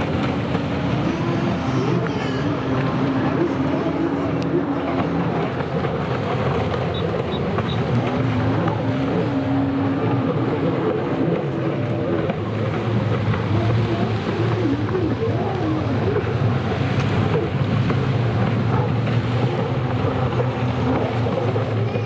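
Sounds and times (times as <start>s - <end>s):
jet ski engines running: 0.0s - 22.0s.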